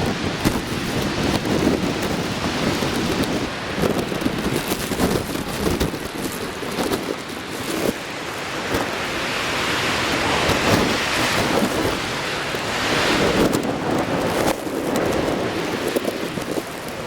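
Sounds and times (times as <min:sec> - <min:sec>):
rough surf: 0:00.0 - 0:17.0
wind gusting over microphone: 0:00.0 - 0:17.0.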